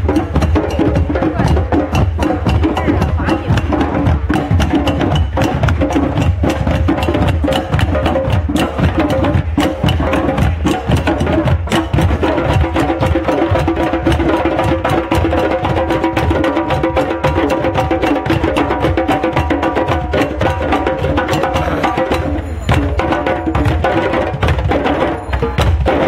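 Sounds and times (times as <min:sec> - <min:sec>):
hand drums playing rhythm: 0:00.0 - 0:26.0.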